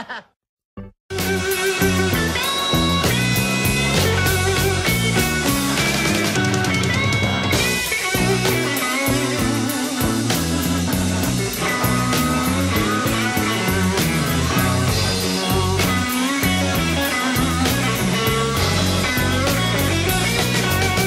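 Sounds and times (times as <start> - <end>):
electric blues band playing: 1.1 - 21.0.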